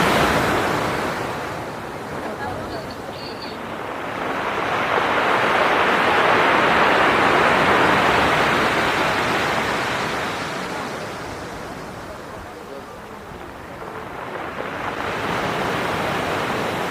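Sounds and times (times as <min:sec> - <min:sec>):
storm wave breaking on shore: 0:00.0 - 0:16.9.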